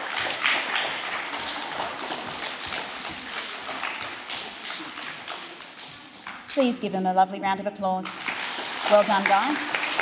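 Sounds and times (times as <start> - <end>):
audience applauding: 0.0 - 6.5, 8.2 - 10.0.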